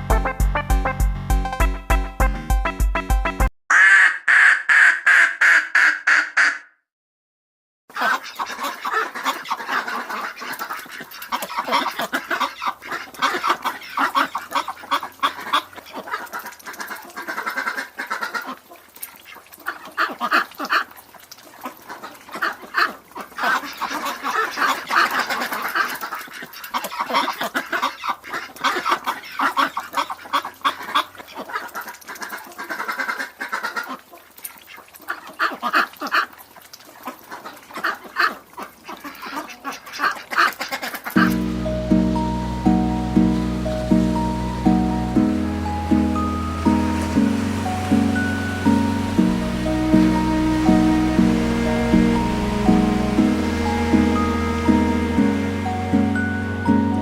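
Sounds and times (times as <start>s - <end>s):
ducks quacking: 7.9s - 20.9s, 21.6s - 36.3s, 37.0s - 57.0s.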